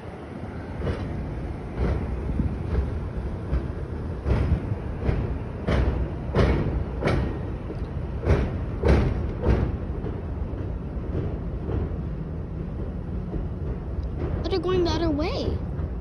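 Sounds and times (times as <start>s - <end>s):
passenger train rumbling by: 0.0s - 16.0s
wheels clacking over rail joints: 0.0s - 16.0s.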